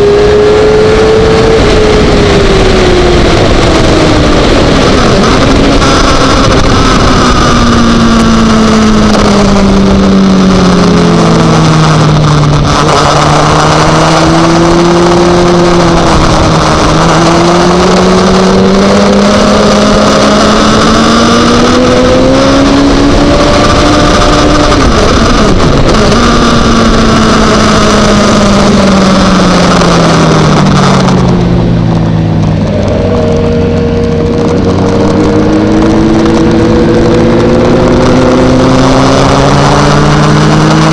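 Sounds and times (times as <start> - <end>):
motorcycle engine at speed: 0.0 - 40.9
wind rushing over microphone: 0.0 - 40.9.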